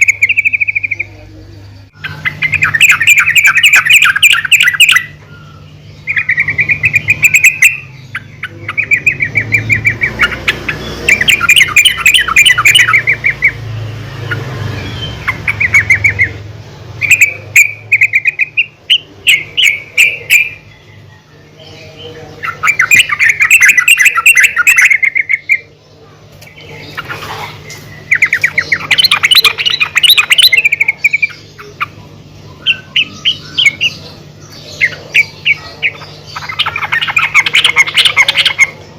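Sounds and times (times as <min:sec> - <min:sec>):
bird chattering calls: 0:00.0 - 0:38.9.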